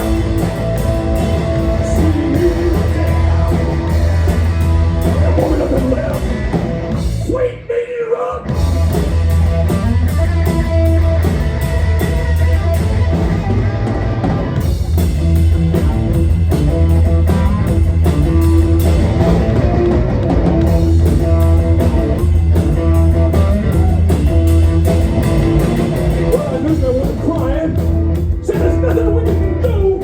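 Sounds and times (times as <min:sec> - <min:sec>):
electric guitar: 0:00.0 - 0:07.3, 0:08.4 - 0:30.0
drum kit: 0:00.0 - 0:07.4, 0:08.4 - 0:30.0
bass guitar: 0:00.0 - 0:30.0.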